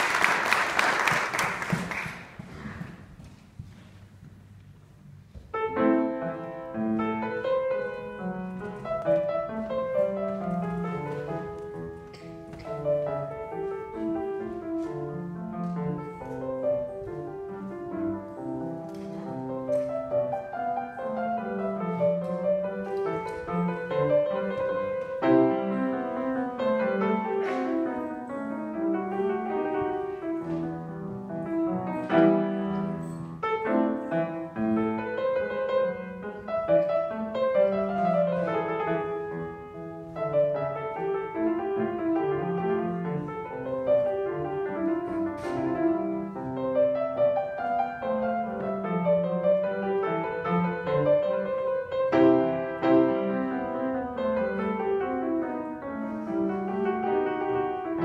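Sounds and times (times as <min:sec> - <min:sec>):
solo piano playing: 0:05.0 - 0:58.0.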